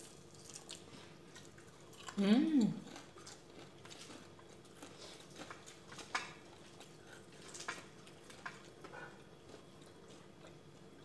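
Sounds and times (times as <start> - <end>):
faint chewing: 0.0 - 11.0
soft clicks and crunches of food: 0.0 - 11.0.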